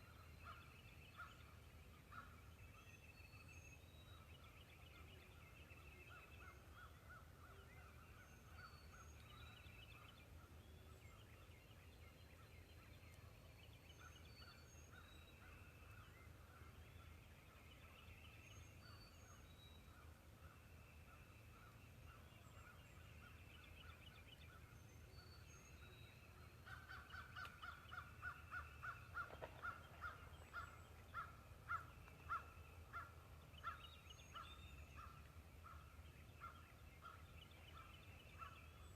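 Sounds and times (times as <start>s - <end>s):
faint high songbird chirps: 0.0s - 38.9s.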